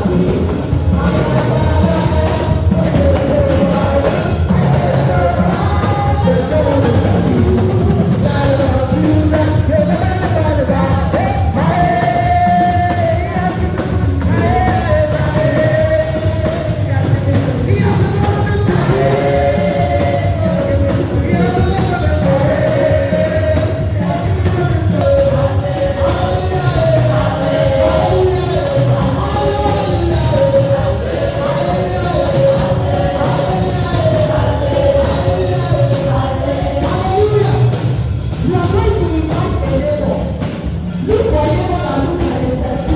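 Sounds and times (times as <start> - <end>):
band accompaniment: 0.0 - 42.9
voices singing held notes: 0.0 - 42.9.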